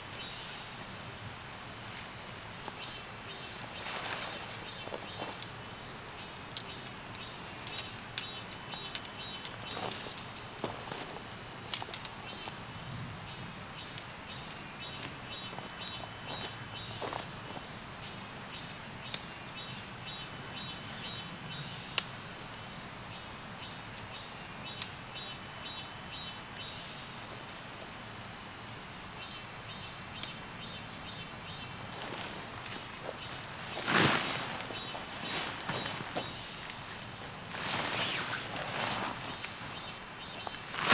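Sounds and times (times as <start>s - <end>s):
faint high insect drone: 0.0s - 40.9s
running water hiss: 0.0s - 40.9s.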